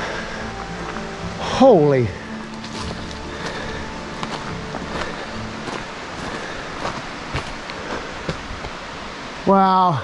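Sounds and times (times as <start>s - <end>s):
footsteps on gravel: 0.0s - 8.8s
steady rushing noise: 0.0s - 10.0s.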